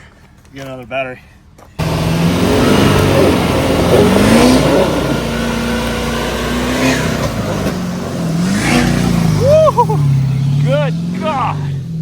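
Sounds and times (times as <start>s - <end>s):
truck engine revving: 1.8s - 12.0s.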